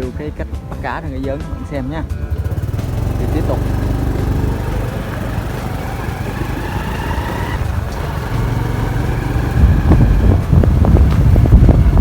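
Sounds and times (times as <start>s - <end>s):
small engine running: 2.2s - 12.0s.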